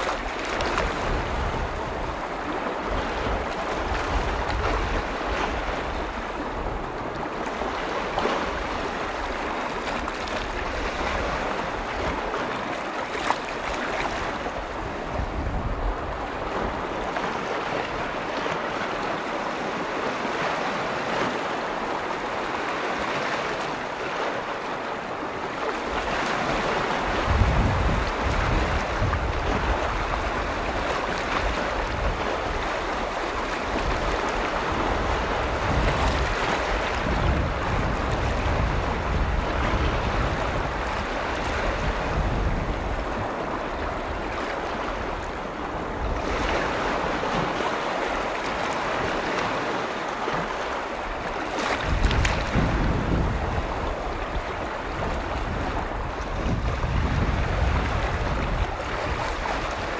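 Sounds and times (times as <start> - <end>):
waves washing against shore: 0.0 - 59.9
wind rumbling on microphone: 0.0 - 59.9.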